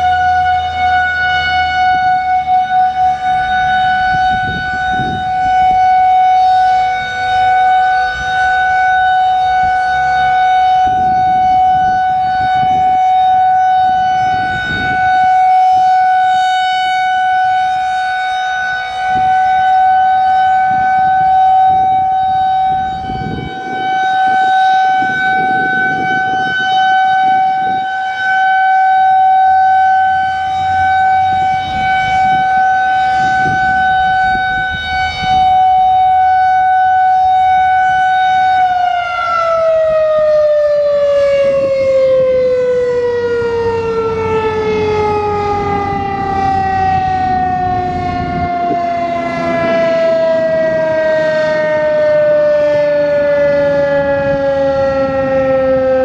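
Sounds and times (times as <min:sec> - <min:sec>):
rotating warning siren: 0:00.0 - 0:56.0.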